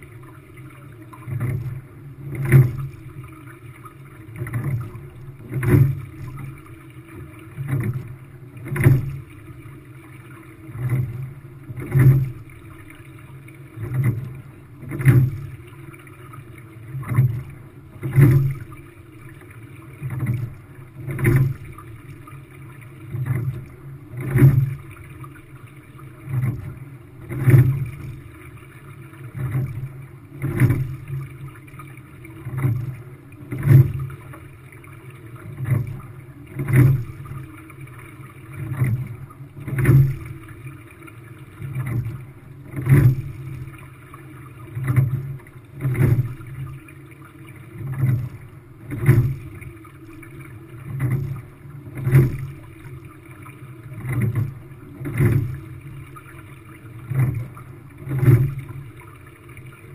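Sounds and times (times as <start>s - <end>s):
water rushing along hull: 0.0s - 59.9s.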